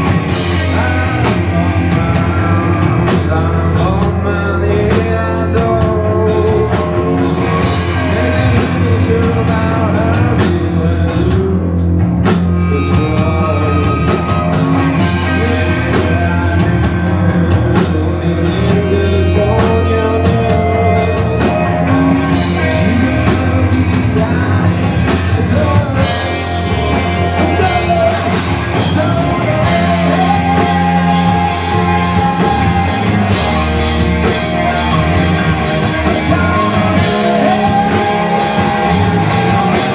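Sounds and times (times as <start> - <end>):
man singing into microphone: 0.0 - 33.9, 34.7 - 39.9
live rock band playing: 0.0 - 39.9.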